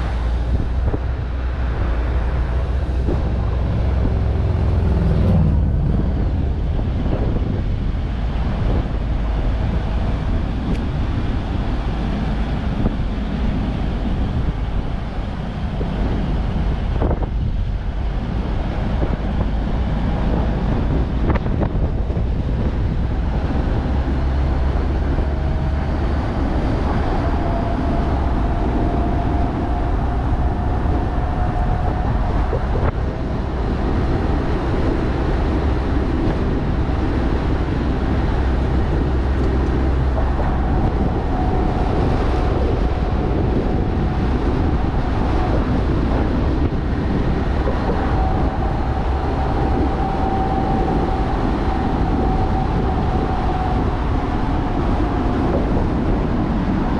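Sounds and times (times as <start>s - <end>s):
road and wind noise: 0.0s - 56.9s.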